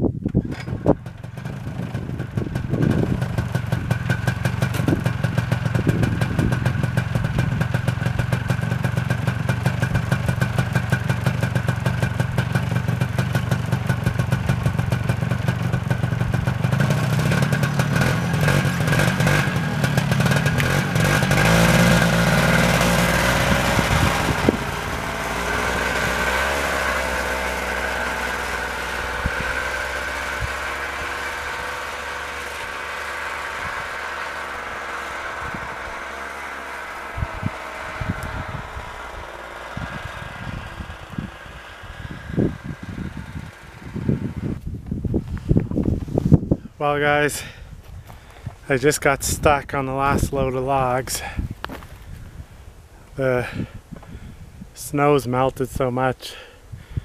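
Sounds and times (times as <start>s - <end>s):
snowmobile engine running: 0.4s - 52.4s.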